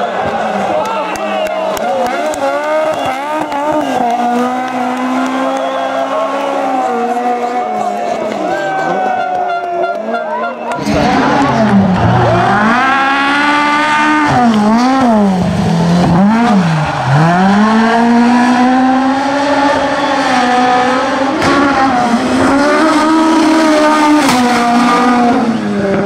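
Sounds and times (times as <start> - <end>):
rally car engine revving: 0.1 - 26.0.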